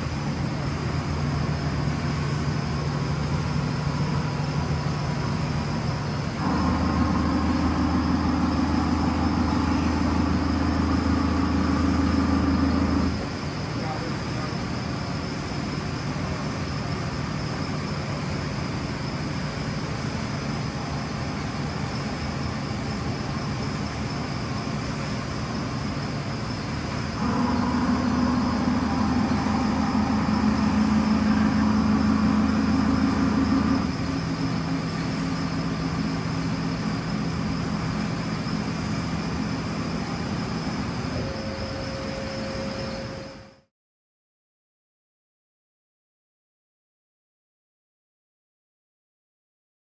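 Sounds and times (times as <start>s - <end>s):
milling machine hum and whine: 0.0s - 43.7s.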